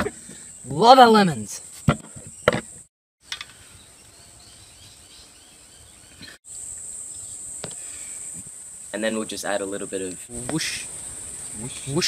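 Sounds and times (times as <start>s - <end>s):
insects droning: 2.2s - 12.0s.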